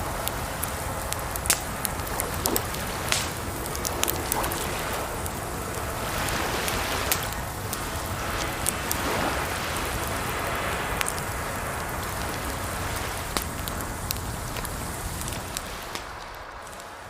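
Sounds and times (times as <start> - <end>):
running water: 0.0 - 16.1
wood fire crackling: 0.0 - 17.0.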